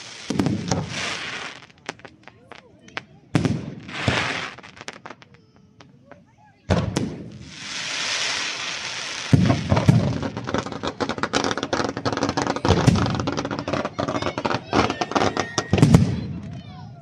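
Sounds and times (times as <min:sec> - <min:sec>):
rising firework hiss: 0:00.0 - 0:05.4, 0:06.8 - 0:16.3
fireworks bangs and crackling: 0:00.0 - 0:17.0.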